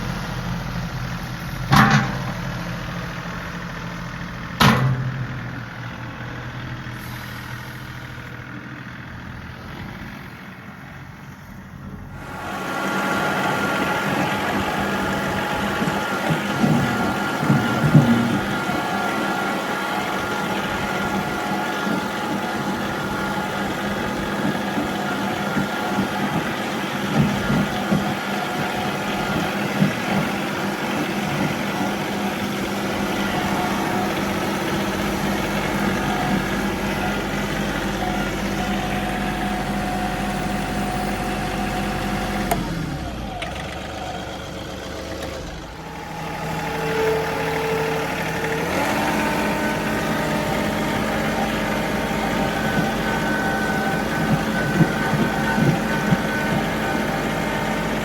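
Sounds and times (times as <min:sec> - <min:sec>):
engine knocks: 0:00.0 - 0:07.0, 0:12.2 - 0:58.0
tractor diesel engine running: 0:00.0 - 0:58.0.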